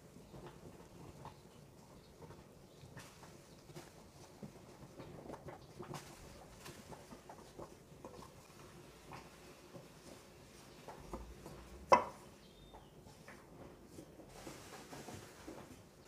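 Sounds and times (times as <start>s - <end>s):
dough mixing rustling: 0.0s - 16.0s.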